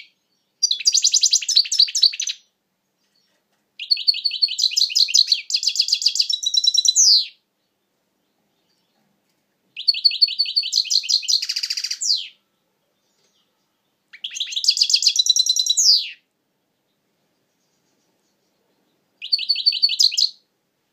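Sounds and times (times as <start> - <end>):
finch singing twittering phrases: 0.0 - 7.4, 9.8 - 12.4, 13.0 - 16.2, 16.8 - 20.4.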